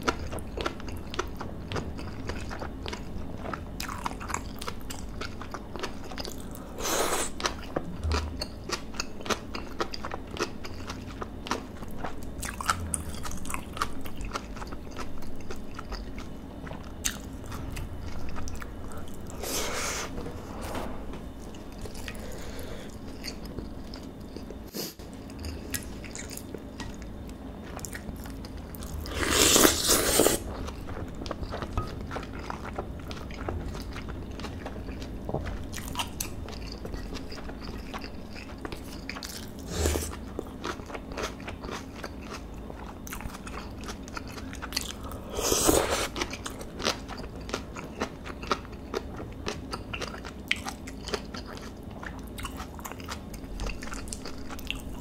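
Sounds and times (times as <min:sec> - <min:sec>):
wet chewing and crunching: 0:00.0 - 0:19.4, 0:21.7 - 0:55.0.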